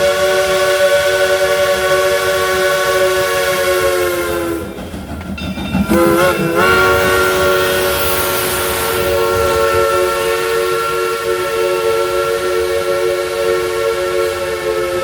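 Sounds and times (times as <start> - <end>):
steam locomotive whistle: 0.0 - 4.8, 5.7 - 15.0.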